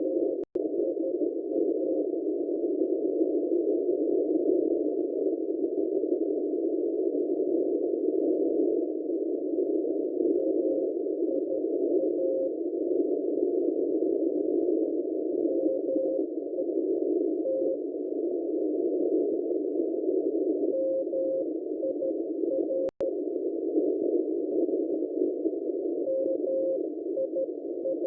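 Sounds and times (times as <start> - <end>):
radio receiver hiss: 0.0 - 28.0.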